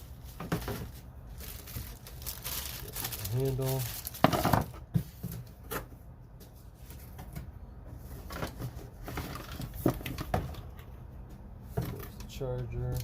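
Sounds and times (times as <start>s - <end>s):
cardboard and plastic rustling: 0.0s - 13.0s.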